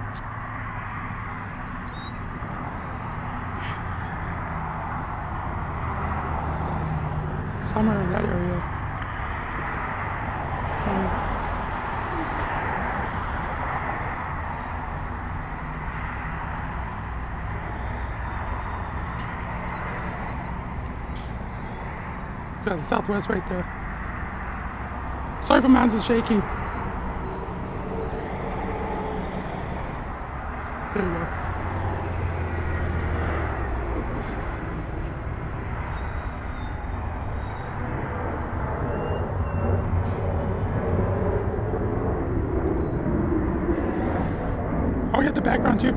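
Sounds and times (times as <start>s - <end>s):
distant jet engines roaring: 0.0s - 45.9s.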